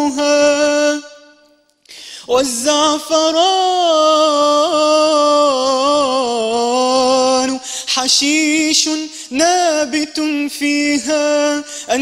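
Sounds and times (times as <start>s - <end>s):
man singing unaccompanied: 0.0s - 1.3s, 2.3s - 12.0s.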